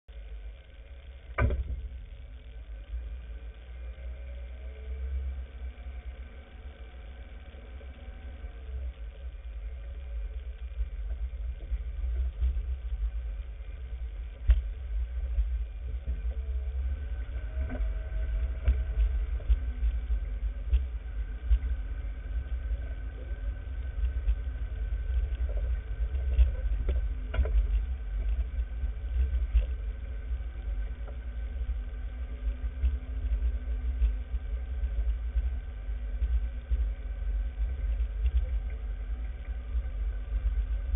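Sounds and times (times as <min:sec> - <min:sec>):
low engine rumble: 0:00.0 - 0:40.9.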